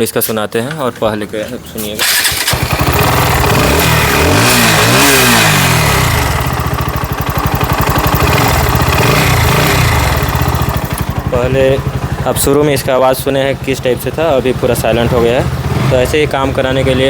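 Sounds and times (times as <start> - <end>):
motorcycle engine revving and idling: 2.0 - 17.0.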